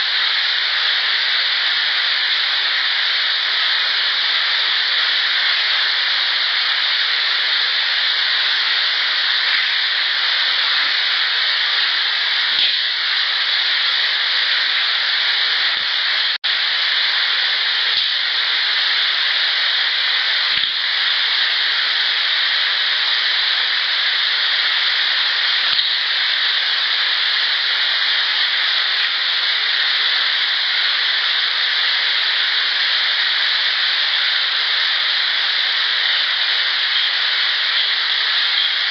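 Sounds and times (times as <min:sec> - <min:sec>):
loud recording hiss: 0:00.0 - 0:38.9.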